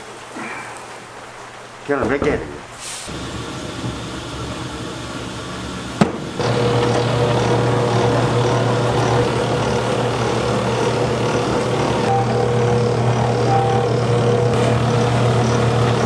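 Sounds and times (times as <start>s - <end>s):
noodle machine humming: 3.1s - 16.0s.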